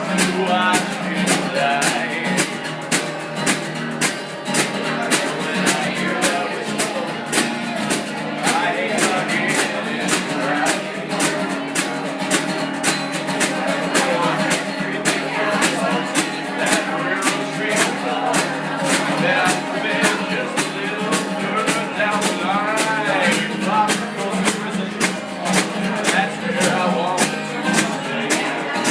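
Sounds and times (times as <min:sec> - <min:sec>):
person singing: 0:00.0 - 0:03.1, 0:04.5 - 0:28.9
country-rock guitar music: 0:00.0 - 0:28.9.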